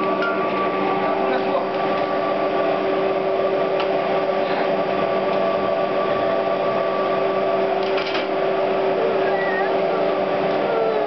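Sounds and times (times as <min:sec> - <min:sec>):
machine humming with steady tone: 0:00.0 - 0:11.0.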